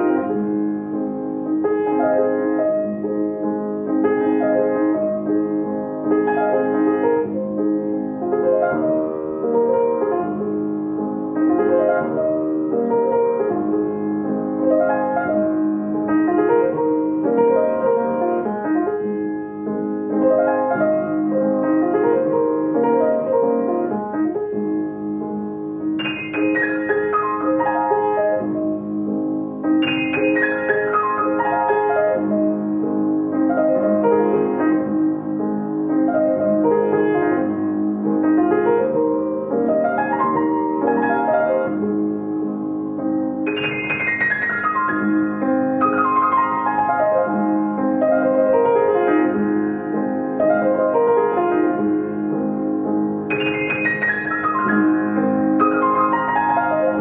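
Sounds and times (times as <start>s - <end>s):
piano arpeggios: 0.0s - 57.0s.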